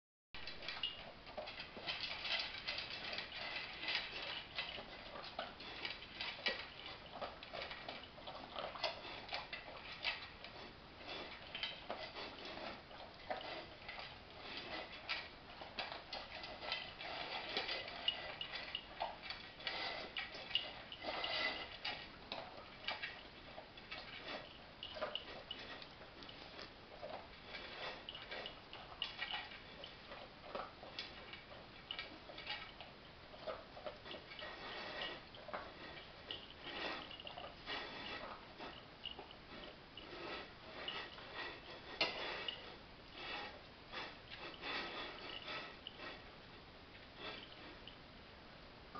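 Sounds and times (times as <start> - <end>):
dogs eating from bowls: 0.4 - 48.0.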